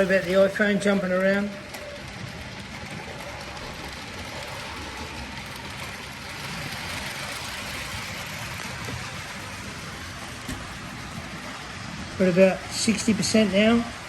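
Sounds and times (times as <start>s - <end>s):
model train running on rails: 0.0s - 14.0s.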